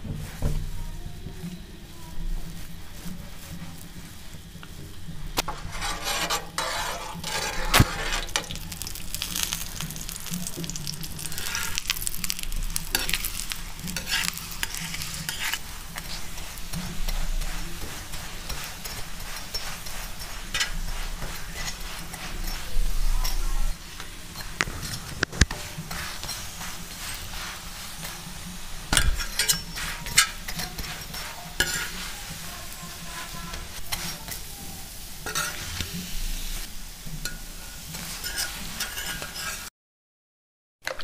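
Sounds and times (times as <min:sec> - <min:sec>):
oil sizzling: 0:00.0 - 0:39.7
spatula scraping a pan: 0:02.2 - 0:39.7.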